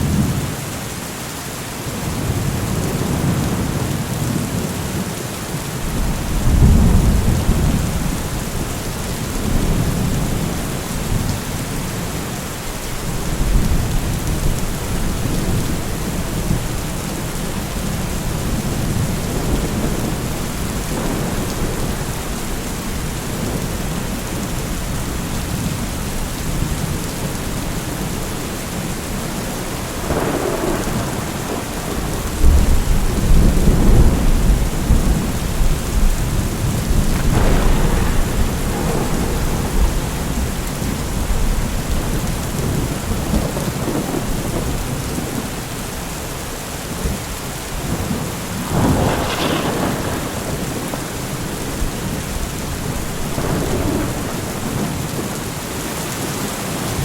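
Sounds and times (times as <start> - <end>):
heavy rain: 0.0 - 57.0
low rolling thunder: 5.8 - 55.8.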